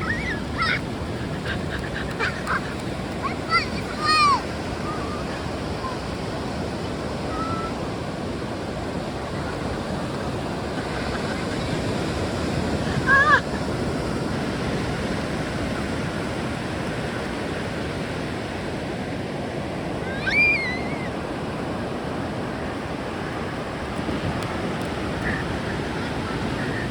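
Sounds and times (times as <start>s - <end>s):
ocean surf on beach: 0.0s - 26.9s.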